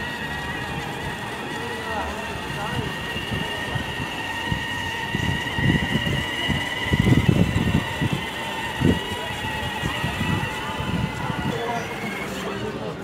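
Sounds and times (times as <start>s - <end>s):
low rumbling on paving: 0.0s - 13.0s
toy car motor whine: 0.0s - 13.0s.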